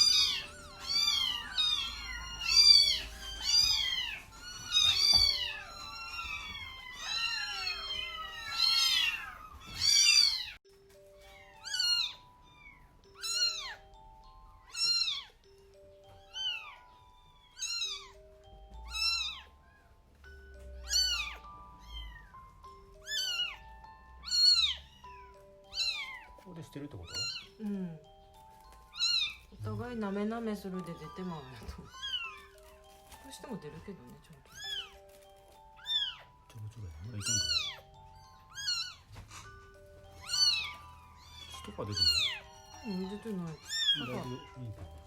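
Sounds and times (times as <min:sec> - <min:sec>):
kittens mewing: 0:00.0 - 0:10.6, 0:11.2 - 0:45.0
simple background melody: 0:00.0 - 0:45.0.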